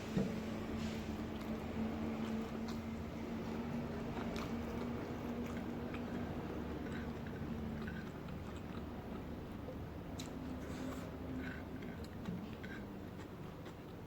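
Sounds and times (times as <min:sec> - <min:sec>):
close-up chewing and biting: 0:01.2 - 0:14.0.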